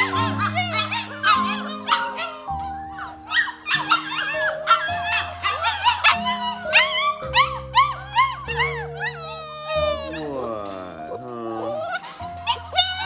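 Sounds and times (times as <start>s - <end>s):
background music with held chords: 0.0s - 13.0s
puppies whining and yipping: 0.0s - 13.0s.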